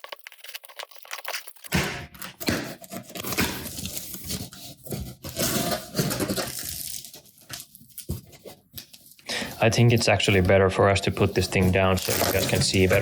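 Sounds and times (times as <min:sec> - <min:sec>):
cardboard tearing and scraping: 0:00.0 - 0:08.6, 0:09.8 - 0:13.0.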